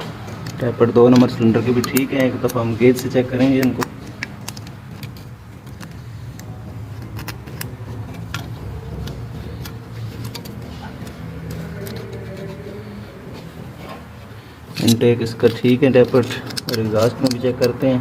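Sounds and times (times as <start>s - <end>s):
metal tool clicks and ticks: 0.0s - 12.7s, 14.7s - 18.0s.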